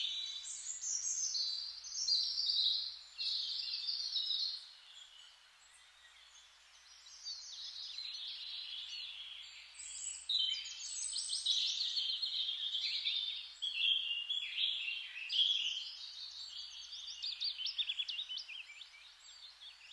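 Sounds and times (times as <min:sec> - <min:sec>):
faint steady hiss: 0:00.0 - 0:19.9
songbirds chirping and trilling: 0:00.0 - 0:19.9.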